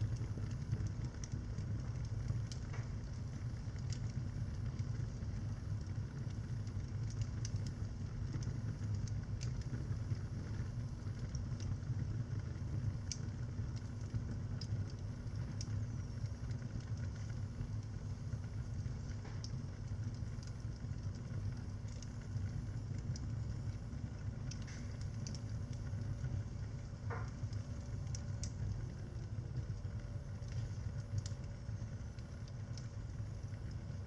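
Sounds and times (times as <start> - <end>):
fire crackles and pops: 0.0 - 34.0
fire rumbling in fireplace: 0.0 - 34.0.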